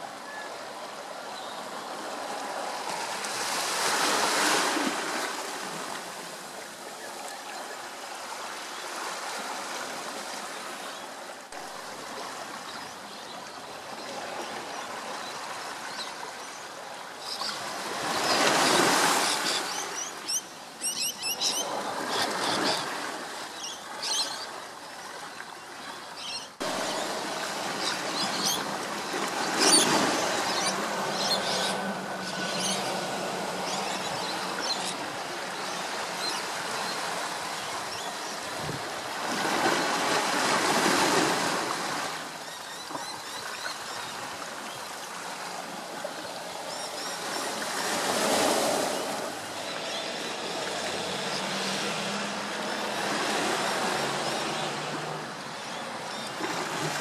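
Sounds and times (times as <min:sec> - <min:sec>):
waves washing: 0:00.0 - 0:57.0.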